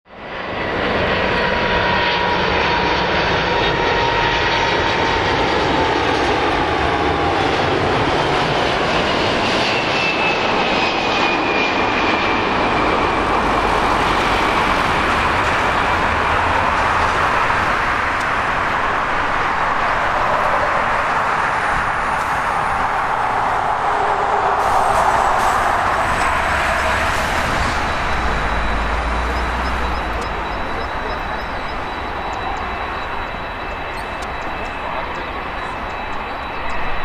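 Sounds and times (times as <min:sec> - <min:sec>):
jet engines roaring: 0:00.1 - 0:37.0.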